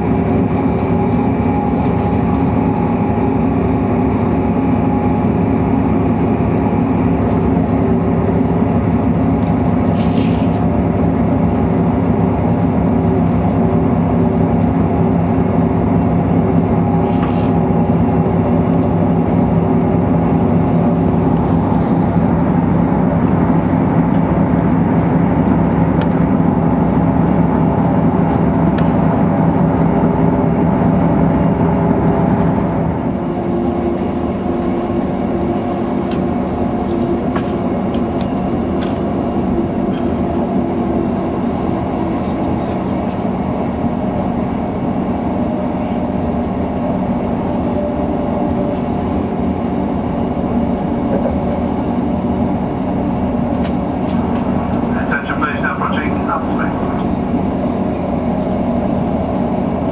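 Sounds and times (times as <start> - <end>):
rail and wheel noise: 0.0 - 59.9
train engine drone: 0.0 - 59.9.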